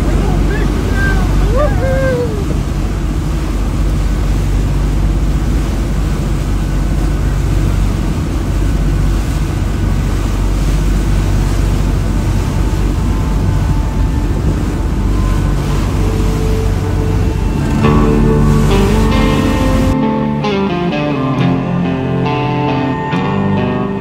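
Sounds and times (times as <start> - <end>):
wind on microphone: 0.0 - 20.0
surf breaking: 0.0 - 23.6
boat engine rumble: 0.0 - 24.0.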